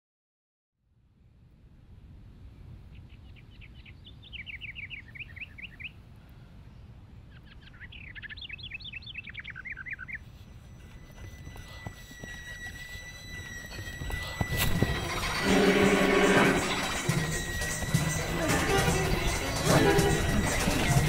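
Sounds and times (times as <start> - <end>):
songbird chirping: 2.5 - 21.0.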